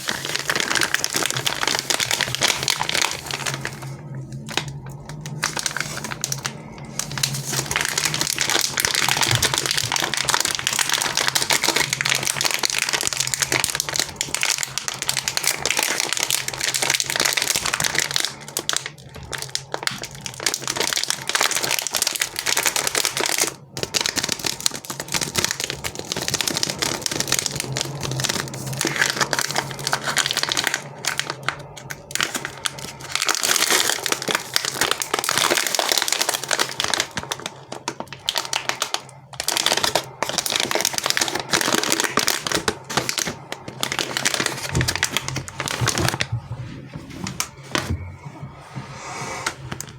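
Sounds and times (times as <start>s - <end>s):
sweet wrappers crinkling: 0.0s - 48.1s.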